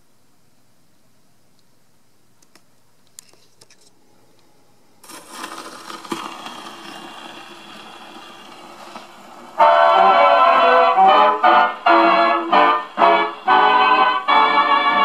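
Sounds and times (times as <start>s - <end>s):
gramophone record hiss: 0.0s - 15.0s.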